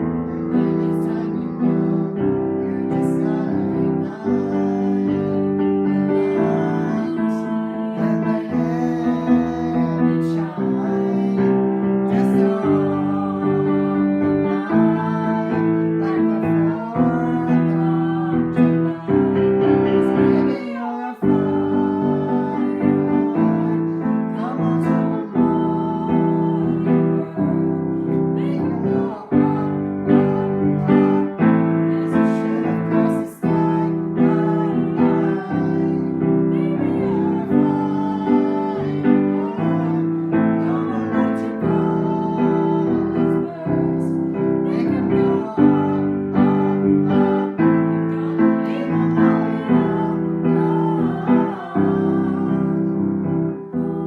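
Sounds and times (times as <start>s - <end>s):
piano chords: 0.0s - 54.0s.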